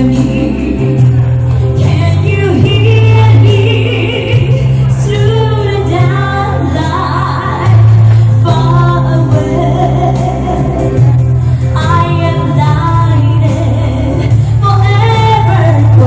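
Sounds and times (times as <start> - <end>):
backing track with bass: 0.0 - 16.0
woman singing pop ballad: 0.0 - 16.0.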